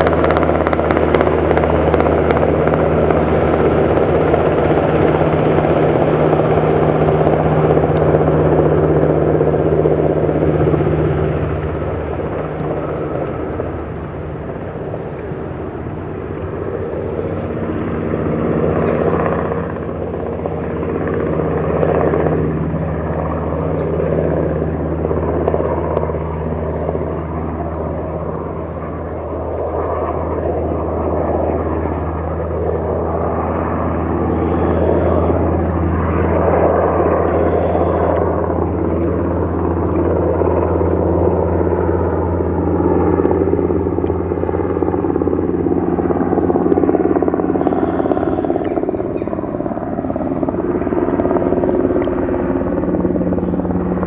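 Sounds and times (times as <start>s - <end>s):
helicopter rotor and turbine drone: 0.0s - 54.0s.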